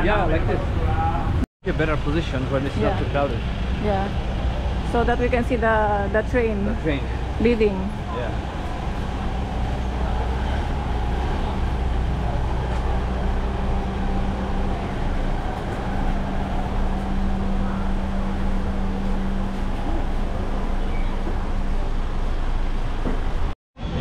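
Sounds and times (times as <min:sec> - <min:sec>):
vehicle engine running: 0:00.0 - 0:23.5.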